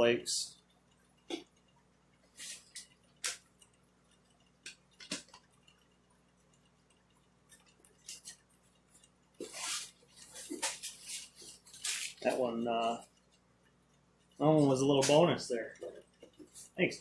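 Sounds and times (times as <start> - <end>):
light clicks and taps: 0.4 - 17.0.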